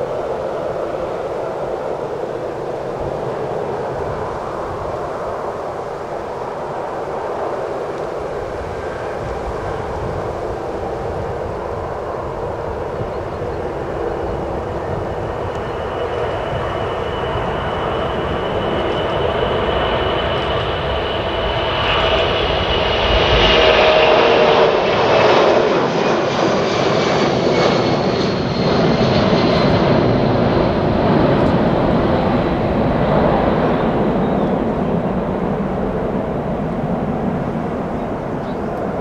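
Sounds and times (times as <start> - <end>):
jet aircraft taking off: 0.0 - 39.0.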